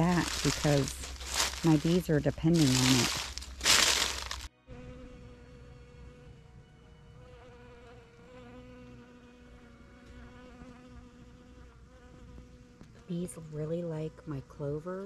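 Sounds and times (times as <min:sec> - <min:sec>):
bees buzzing in flight: 0:00.0 - 0:13.5.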